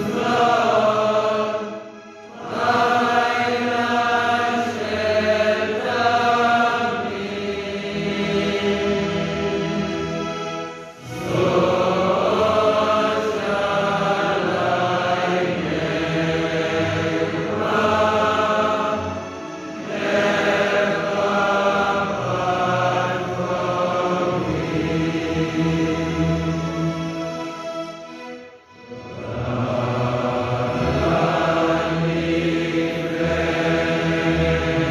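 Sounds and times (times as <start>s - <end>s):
group singing a hymn: 0.0s - 28.2s, 28.8s - 34.9s.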